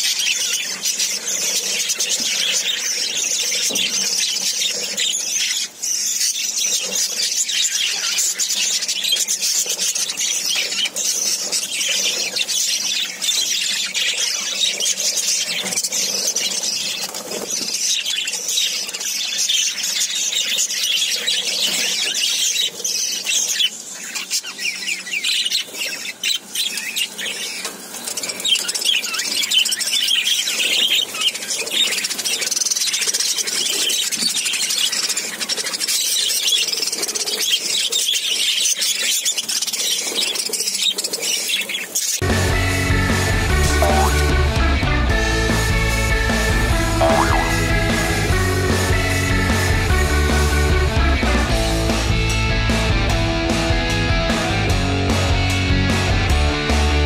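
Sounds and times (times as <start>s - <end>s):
budgerigars chattering: 0.0s - 44.6s, 45.6s - 50.1s.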